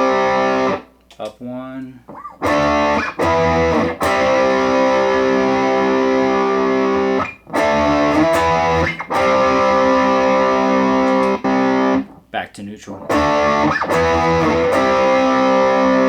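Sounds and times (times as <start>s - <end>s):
distorted electric guitar chords: 0.0s - 0.9s, 2.4s - 12.2s, 13.0s - 16.0s.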